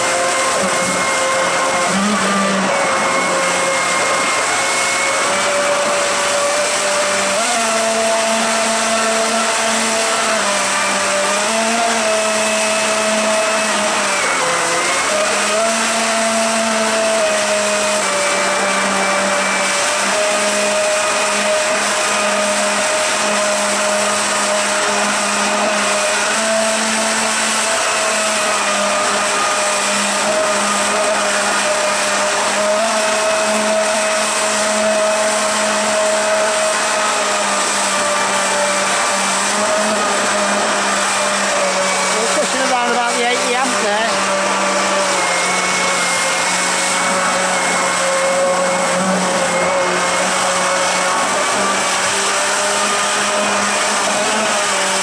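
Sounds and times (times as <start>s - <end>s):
churning frothing water: 0.0s - 55.0s
electric motor whine: 0.0s - 55.0s.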